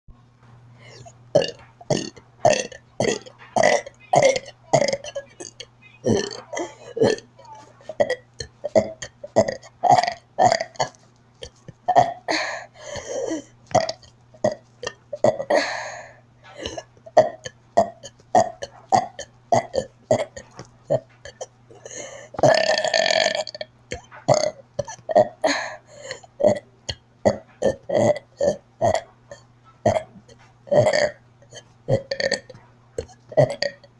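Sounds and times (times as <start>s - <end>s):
child burping: 0.8s - 33.9s.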